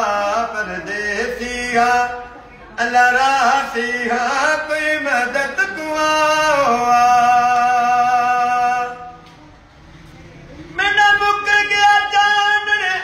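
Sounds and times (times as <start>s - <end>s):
man singing a lament: 0.0s - 9.2s, 10.8s - 13.0s.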